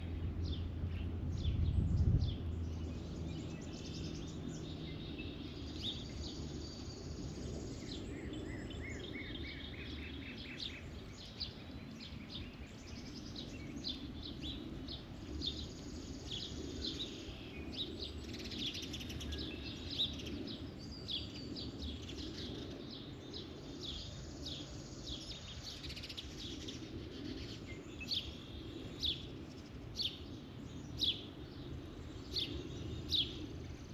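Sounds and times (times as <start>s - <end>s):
low background rumble: 0.0s - 33.9s
songbirds chirping and singing: 0.0s - 33.9s.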